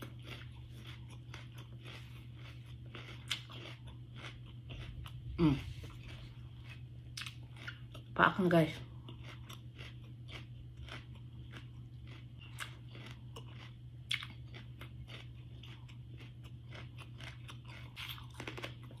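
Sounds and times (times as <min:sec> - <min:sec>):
crisp chewing crunches: 0:00.0 - 0:08.2, 0:08.8 - 0:19.0
steady low hum: 0:00.0 - 0:19.0.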